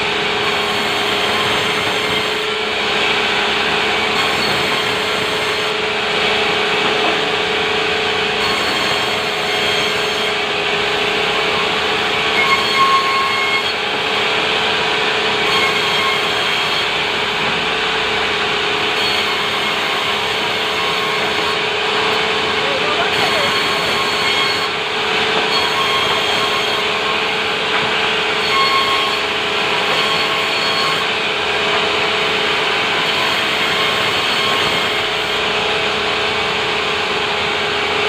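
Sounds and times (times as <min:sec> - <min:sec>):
sawmill saw cutting timber: 0:00.0 - 0:38.0
saw squeal: 0:00.4 - 0:03.2, 0:03.9 - 0:06.4, 0:08.3 - 0:17.4, 0:18.8 - 0:35.6.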